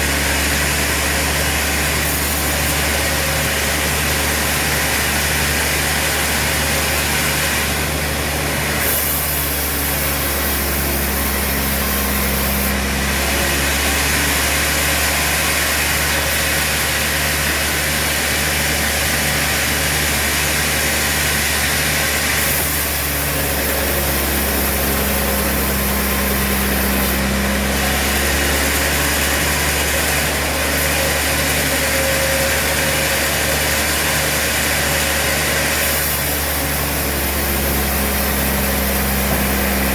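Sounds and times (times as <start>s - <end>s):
hissing machinery: 0.0s - 18.9s, 19.9s - 39.9s
sawmill machinery drone: 0.0s - 39.9s.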